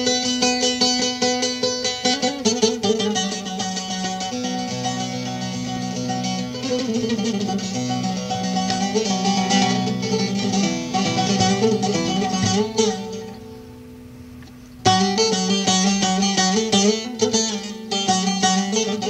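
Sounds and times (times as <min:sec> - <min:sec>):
plucked long-necked lute melody: 0:00.0 - 0:19.0.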